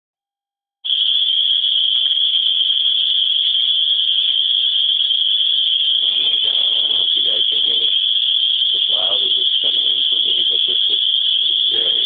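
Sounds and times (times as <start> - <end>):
cicadas buzzing: 0.9 - 12.0.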